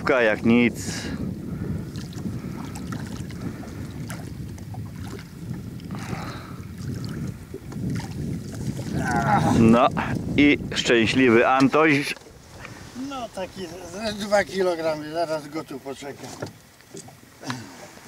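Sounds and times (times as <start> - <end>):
wind rumbling on microphone: 0.0 - 15.4.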